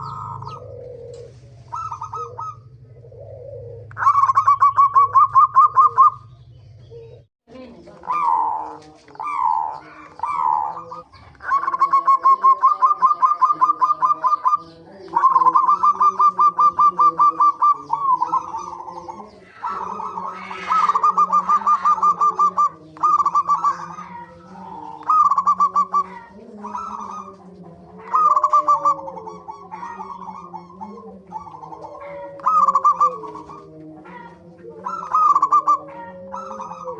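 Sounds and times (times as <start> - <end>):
doves trilled cooing: 0.0 - 36.9.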